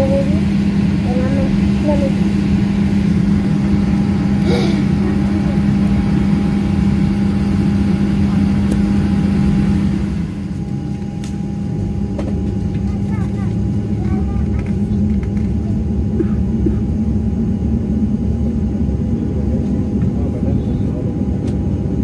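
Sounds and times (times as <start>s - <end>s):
airplane cabin hum: 0.0s - 22.0s.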